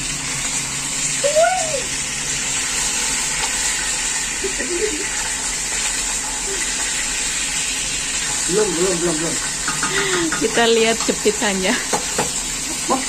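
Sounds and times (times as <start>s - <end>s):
fish deep-frying in hot oil: 0.0s - 13.0s.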